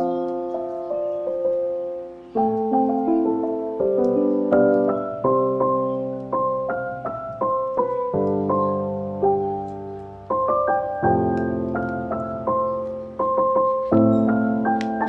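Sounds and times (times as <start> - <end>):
slow solo piano piece: 0.0 - 15.0.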